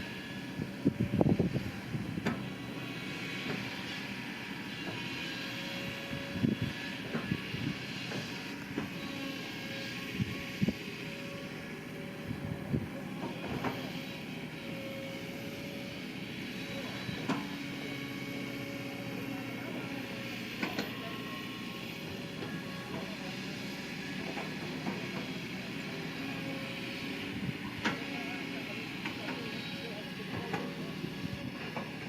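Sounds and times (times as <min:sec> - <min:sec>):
heavy machinery diesel engine: 0:00.0 - 0:32.0.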